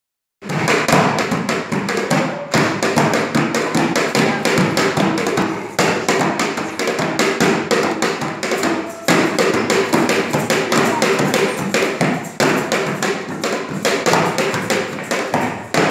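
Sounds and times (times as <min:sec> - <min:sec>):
rapid tapping and knocking: 0:00.4 - 0:15.9.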